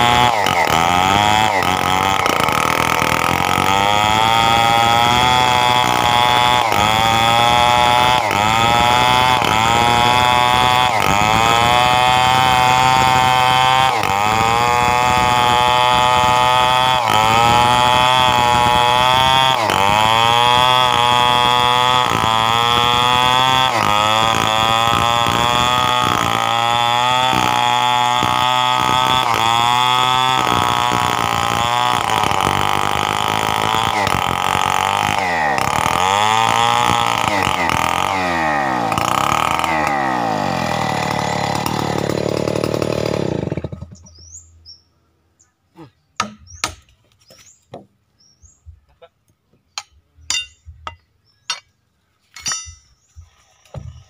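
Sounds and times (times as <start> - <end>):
chainsaw cutting wood: 0.0 - 44.8, 46.2 - 47.9, 49.6 - 51.7, 52.3 - 54.0.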